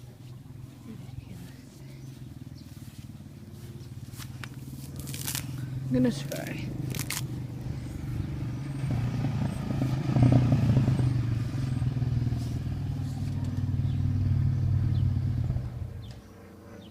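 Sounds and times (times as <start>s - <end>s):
engine humming: 0.0s - 16.9s.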